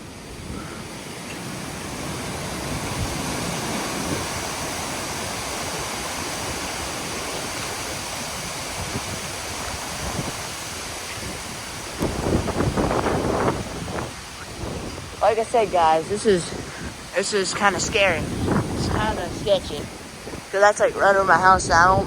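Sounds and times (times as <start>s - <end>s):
gusty wind through pine trees: 0.0s - 22.0s.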